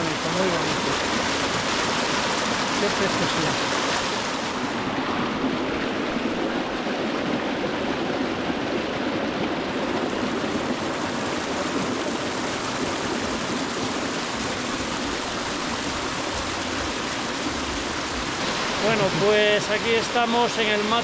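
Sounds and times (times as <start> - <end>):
water rushing down waterfall: 0.0 - 21.0.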